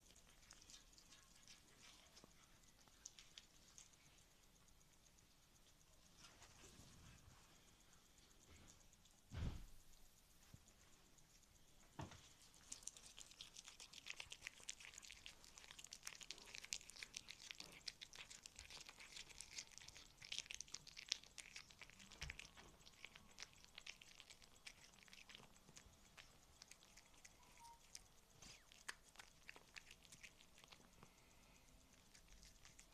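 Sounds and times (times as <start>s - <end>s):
cat chewing: 0.0s - 9.2s, 12.2s - 32.9s.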